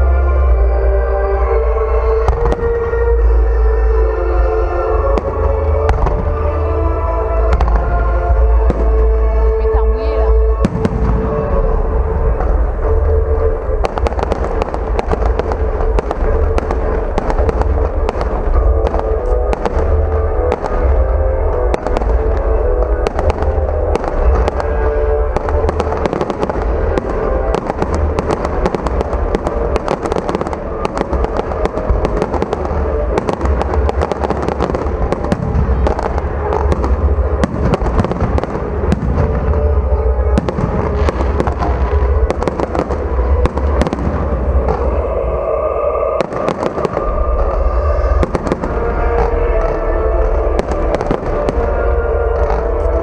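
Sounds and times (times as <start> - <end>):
fireworks bangs and crackles: 0.0 - 53.0
music playing: 0.0 - 53.0
deep rumbling boom: 1.6 - 53.0.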